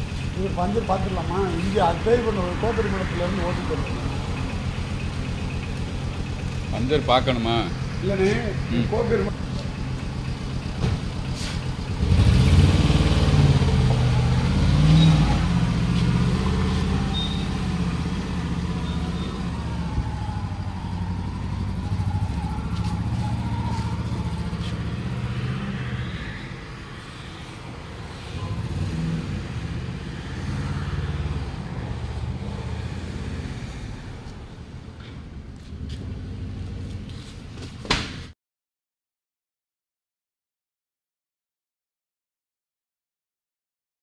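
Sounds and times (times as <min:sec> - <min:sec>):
engine droning: 0:00.0 - 0:37.8.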